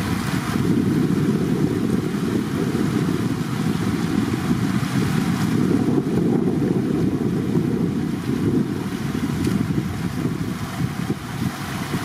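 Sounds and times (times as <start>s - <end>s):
water flowing over rock: 0.0s - 12.0s.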